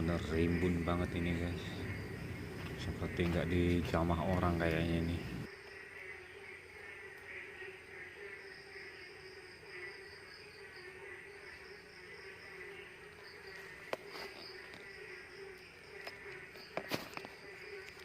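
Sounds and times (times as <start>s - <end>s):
crickets and insects trilling: 0.0s - 18.0s.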